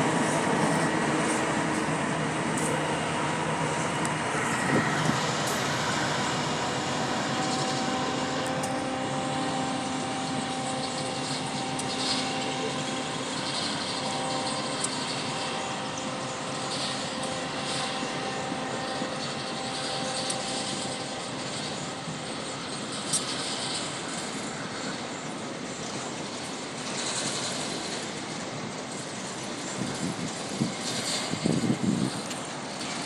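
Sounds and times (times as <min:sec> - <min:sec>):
train engine and rolling noise: 0:00.0 - 0:33.0.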